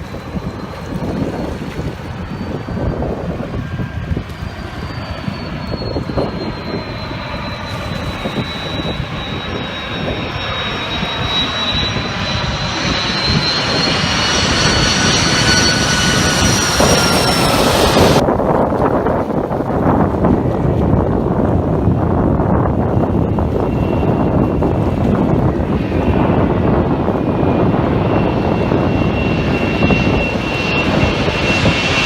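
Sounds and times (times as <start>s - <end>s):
engine high whine: 0.0s - 32.0s
wind noise rushing: 0.0s - 32.0s.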